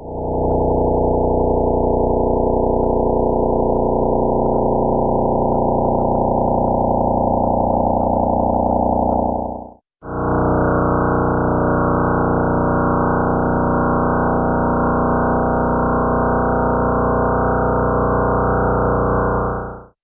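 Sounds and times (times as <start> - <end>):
dense layered electronic drone: 0.0 - 19.8.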